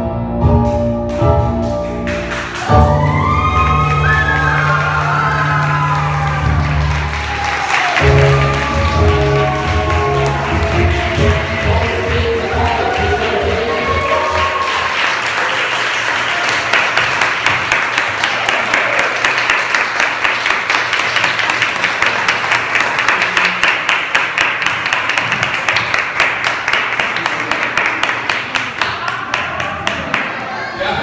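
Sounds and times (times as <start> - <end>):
audience applauding: 2.0 - 31.0.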